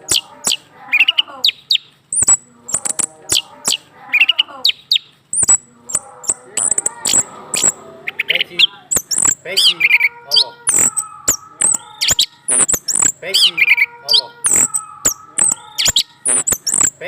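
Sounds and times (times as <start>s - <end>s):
thrush singing with whistled notes: 0.0s - 17.0s.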